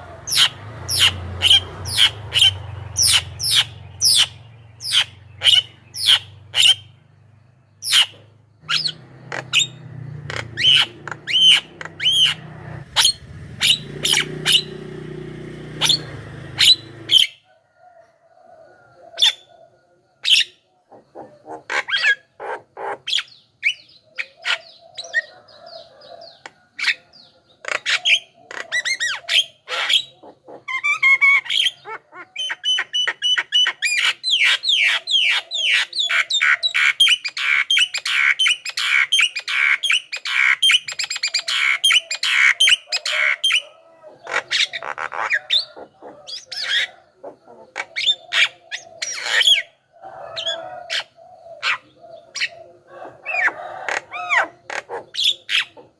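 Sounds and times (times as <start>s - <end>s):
bird squawking and chattering: 0.0s - 7.0s, 7.8s - 15.0s, 15.6s - 17.4s, 20.2s - 25.3s, 26.8s - 55.9s.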